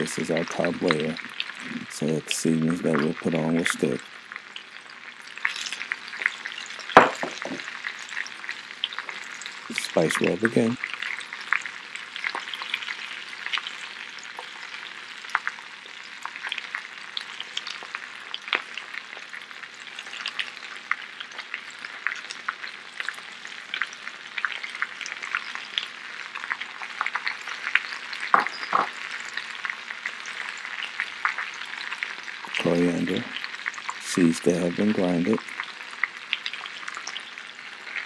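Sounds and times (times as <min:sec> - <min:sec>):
potatoes sizzling in oil: 0:00.0 - 0:38.0.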